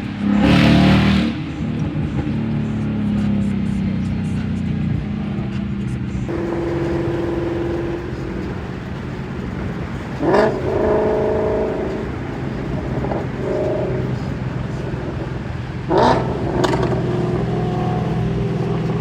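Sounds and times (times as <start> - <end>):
car exhaust engine revving: 0.0 - 3.8, 6.3 - 19.0.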